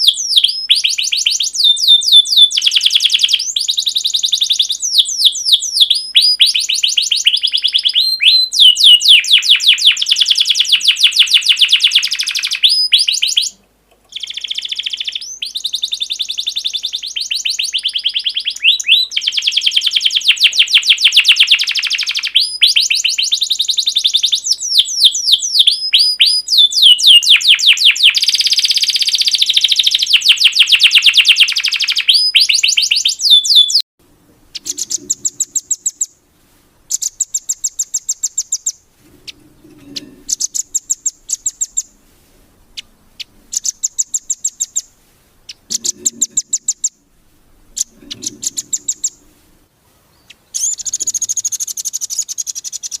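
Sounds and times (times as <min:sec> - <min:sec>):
songbird trilling: 0:00.0 - 0:33.8, 0:34.5 - 0:36.2, 0:36.9 - 0:42.0, 0:42.7 - 0:47.0, 0:47.7 - 0:49.3, 0:50.1 - 0:53.0.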